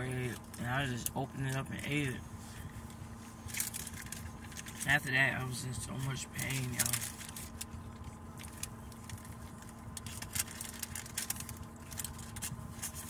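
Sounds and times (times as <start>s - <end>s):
car cabin hum: 0.0s - 13.0s
light clicks and rustles: 0.2s - 5.0s, 6.0s - 13.0s.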